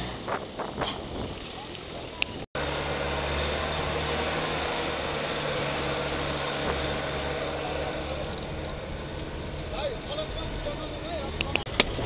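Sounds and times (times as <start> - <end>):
minibus engine running: 0.0 - 12.0
road noise: 0.0 - 12.0.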